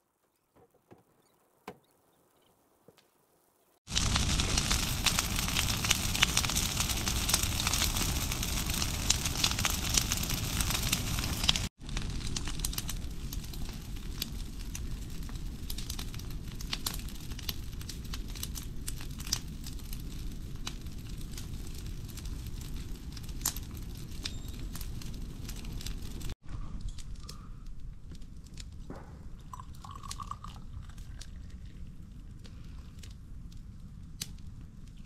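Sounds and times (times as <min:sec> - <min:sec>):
branches burning crackling and popping: 0:03.8 - 0:35.0.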